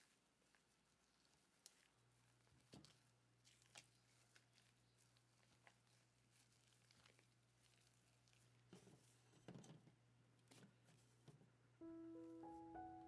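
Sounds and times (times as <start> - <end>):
low steady hum: 0.1 - 13.0.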